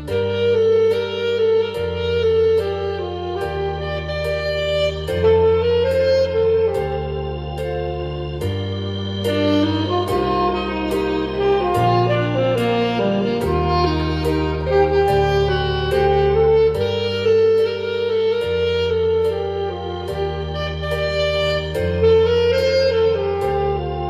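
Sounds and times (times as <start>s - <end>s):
held bass line: 0.0s - 24.0s
saxophone melody: 0.0s - 24.0s.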